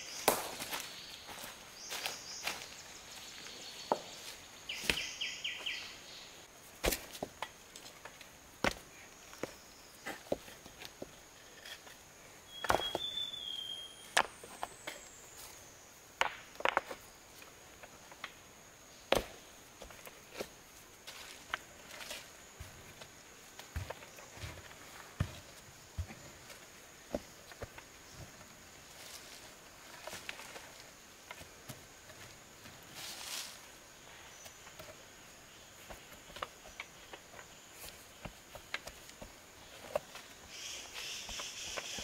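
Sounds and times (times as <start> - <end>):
high insect drone: 7.8 - 42.0.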